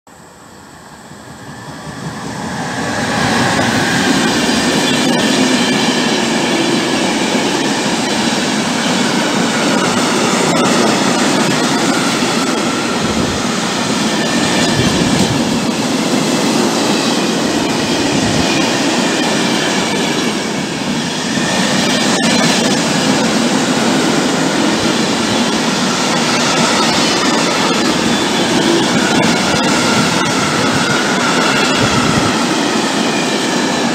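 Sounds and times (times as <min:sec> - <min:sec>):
freight train wheels rumbling: 0:00.1 - 0:33.9.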